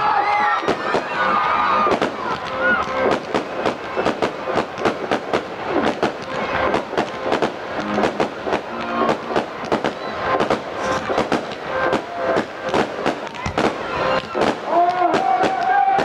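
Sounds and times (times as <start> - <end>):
fireworks bangs and crackles: 0.0 - 16.0
faint whistling of fireworks: 0.1 - 16.0.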